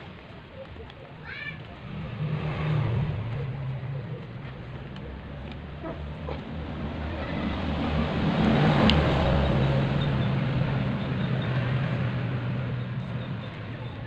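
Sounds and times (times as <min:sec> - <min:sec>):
vehicle passing by: 0:01.6 - 0:14.0.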